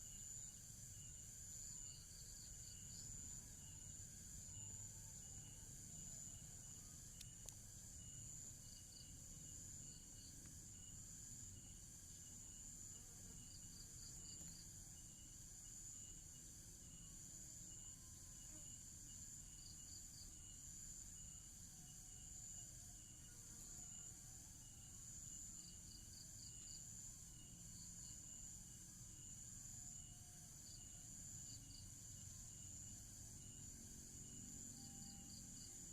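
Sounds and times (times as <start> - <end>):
high-pitched insect drone: 0.0 - 35.9
insects chirping: 0.0 - 35.9.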